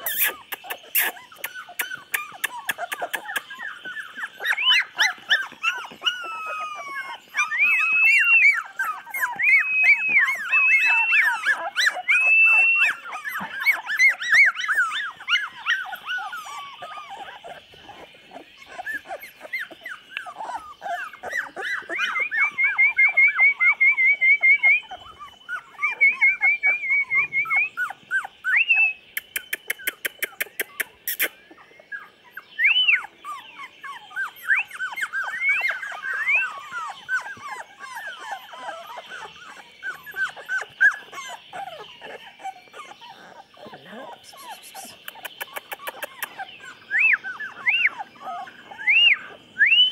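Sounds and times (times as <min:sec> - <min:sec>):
puppies chirping cries: 0:00.0 - 0:49.9
puppies whining and squealing: 0:00.0 - 0:49.9.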